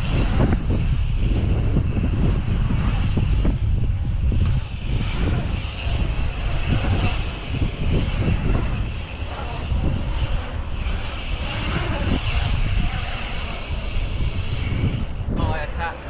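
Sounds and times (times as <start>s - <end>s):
bike tyres rolling on concrete: 0.0s - 16.0s
wind rumbling on microphone: 0.0s - 16.0s.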